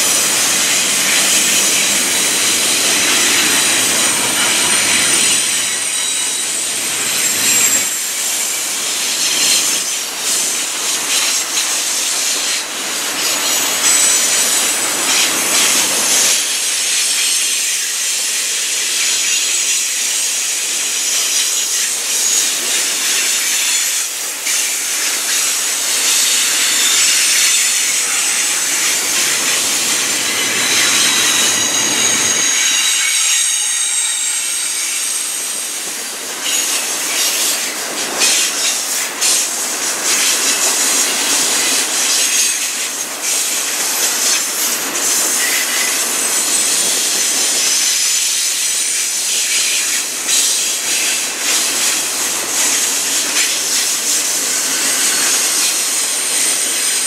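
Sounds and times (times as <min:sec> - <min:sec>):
freight train rolling past: 0:00.0 - 0:57.0
wheels squealing on rails: 0:00.0 - 0:57.0.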